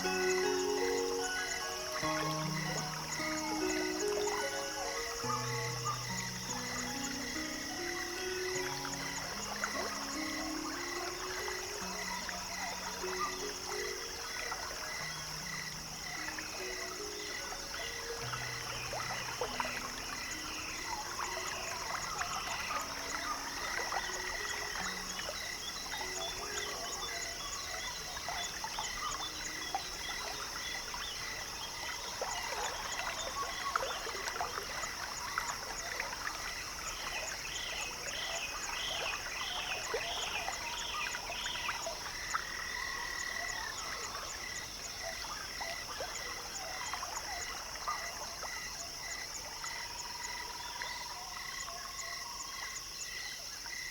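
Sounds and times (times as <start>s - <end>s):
evenly pulsed frog call: 0.0s - 53.1s
insect drone: 0.0s - 53.9s.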